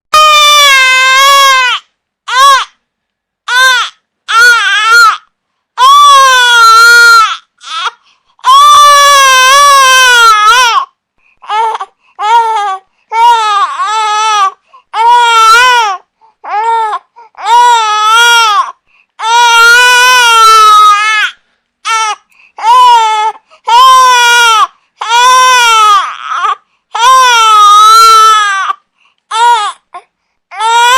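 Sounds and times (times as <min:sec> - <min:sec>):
infant crying: 0:00.1 - 0:02.8, 0:03.5 - 0:30.9.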